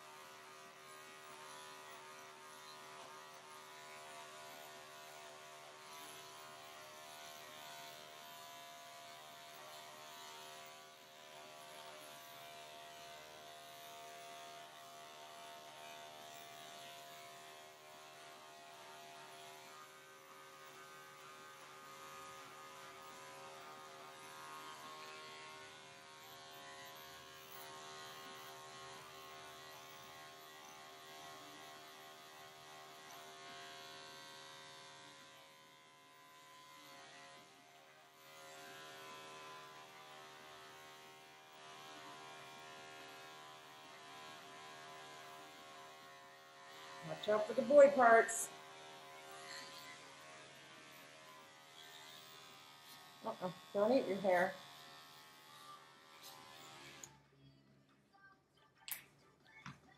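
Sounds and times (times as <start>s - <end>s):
electric clipper running: 0.0s - 57.2s.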